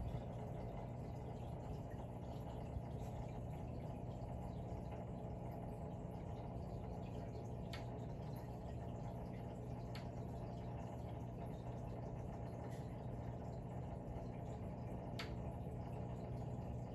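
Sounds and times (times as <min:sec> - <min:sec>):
aquarium equipment humming: 0:00.0 - 0:16.9
faint water trickling: 0:00.0 - 0:16.9.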